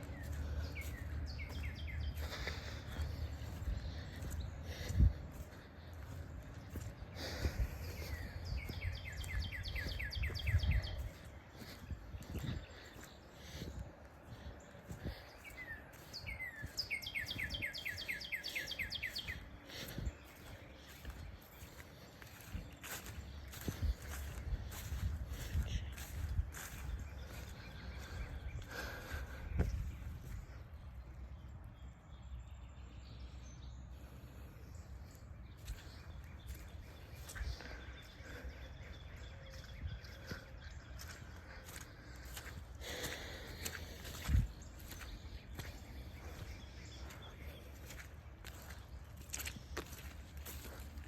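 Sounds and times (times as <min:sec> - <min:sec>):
wind rumble on microphone: 0:00.0 - 0:17.9, 0:19.0 - 0:31.6, 0:35.6 - 0:42.6, 0:43.6 - 0:50.8
songbird singing: 0:00.0 - 0:51.0.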